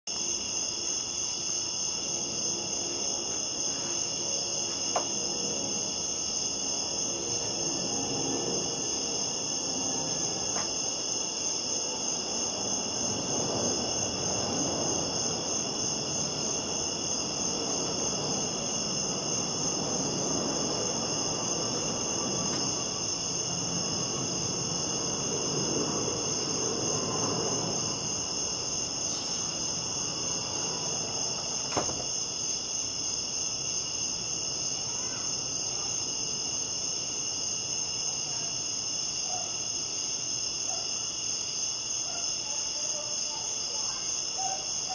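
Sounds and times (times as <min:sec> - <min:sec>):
crickets chirping: 0:00.1 - 0:44.9.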